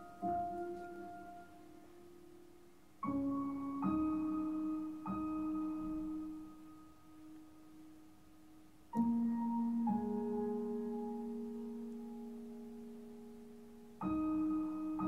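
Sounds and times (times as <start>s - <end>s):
slow piano-like film music: 0.0s - 15.0s.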